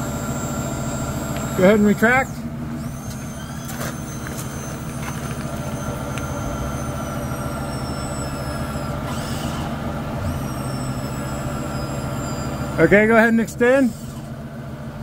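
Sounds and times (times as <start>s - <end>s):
hydraulic pump whine: 0.0s - 15.0s.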